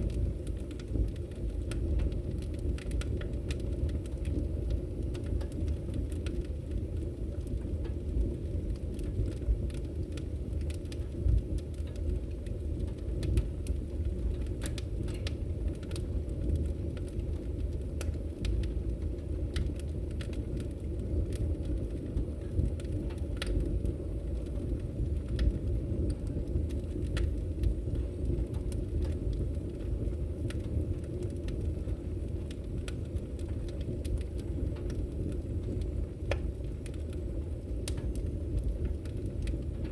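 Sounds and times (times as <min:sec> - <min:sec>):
fire burning in fireplace: 0:00.0 - 0:39.9.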